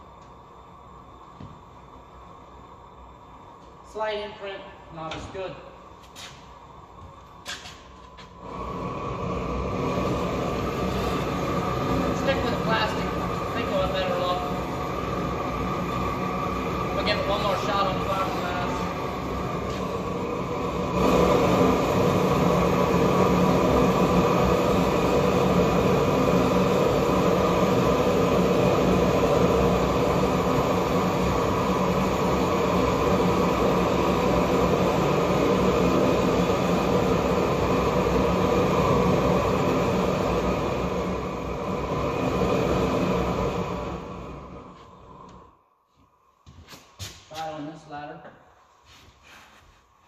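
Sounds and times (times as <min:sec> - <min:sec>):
gas torch flame burning: 0:00.0 - 0:50.0.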